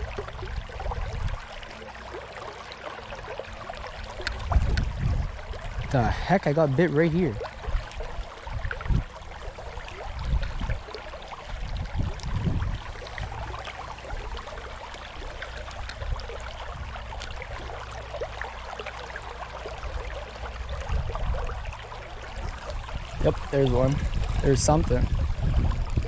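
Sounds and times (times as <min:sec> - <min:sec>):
creek water running over rocks: 0:00.0 - 0:26.0.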